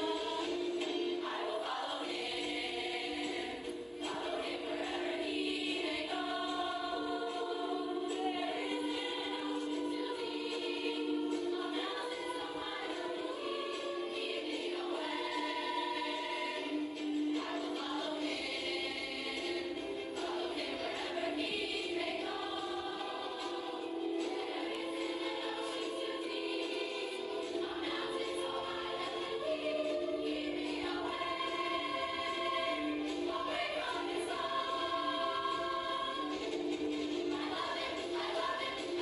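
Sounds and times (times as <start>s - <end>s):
gospel choir singing: 0.0s - 39.0s.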